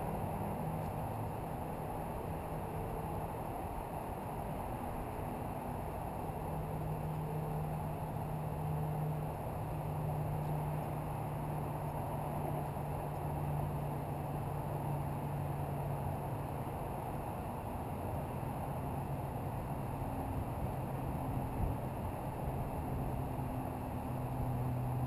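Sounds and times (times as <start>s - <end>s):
low engine hum: 0.0s - 25.0s
urban background noise: 0.0s - 25.0s.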